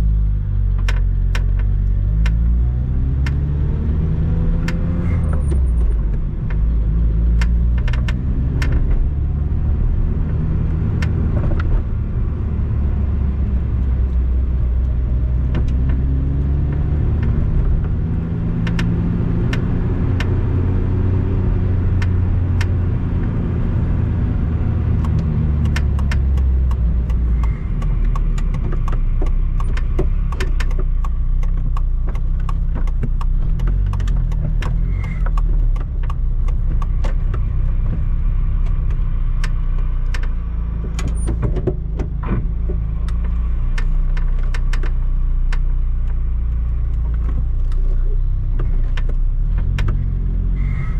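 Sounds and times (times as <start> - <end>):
car engine and road noise: 0.0 - 50.9
dashboard creaks and clicks: 0.6 - 3.6, 4.2 - 9.2, 10.2 - 11.9, 13.7 - 20.5, 24.6 - 50.9.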